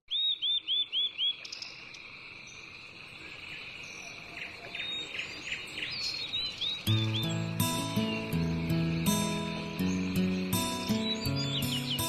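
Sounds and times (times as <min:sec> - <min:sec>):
bird chirping: 0:00.1 - 0:12.0
insect trill: 0:00.4 - 0:12.0.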